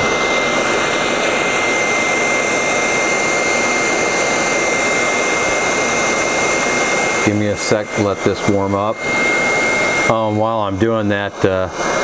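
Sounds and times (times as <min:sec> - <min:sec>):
hot air rushing: 0:00.0 - 0:12.0
thin high whine: 0:00.0 - 0:12.0.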